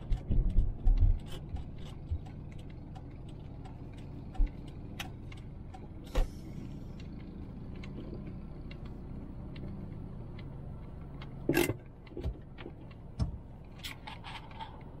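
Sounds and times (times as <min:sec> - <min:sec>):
car engine and road rumble: 0:00.0 - 0:15.0
small clicks and rattles: 0:00.0 - 0:15.0.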